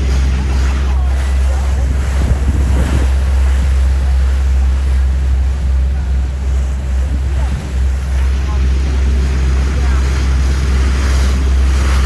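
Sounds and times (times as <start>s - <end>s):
low engine rumble: 0.0s - 12.0s
water rushing along hull: 0.0s - 12.0s
wind buffeting microphone: 0.0s - 12.0s.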